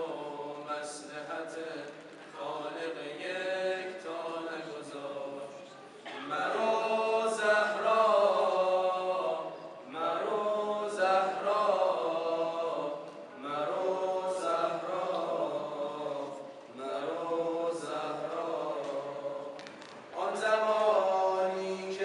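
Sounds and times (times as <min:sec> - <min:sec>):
man chanting a cappella: 0:00.0 - 0:05.6, 0:06.2 - 0:22.0.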